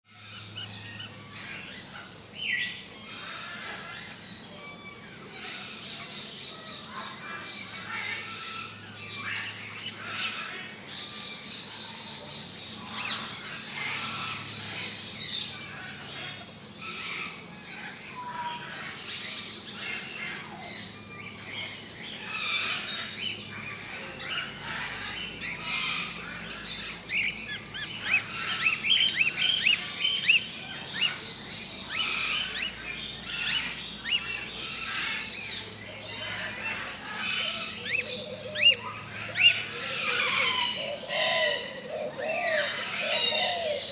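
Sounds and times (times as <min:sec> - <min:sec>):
birds chirping: 0:00.1 - 0:43.9.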